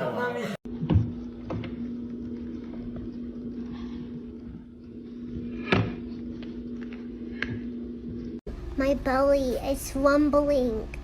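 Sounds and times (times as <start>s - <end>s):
steady low hum: 0.7s - 11.0s.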